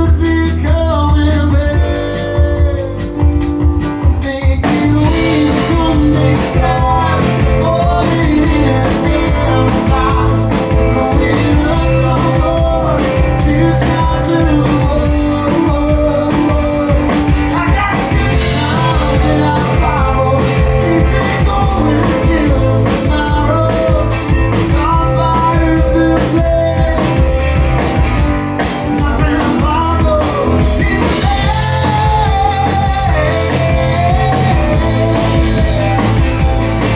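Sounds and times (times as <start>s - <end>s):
live rock band playing: 0.0s - 36.9s
steady drum beat: 0.0s - 36.9s.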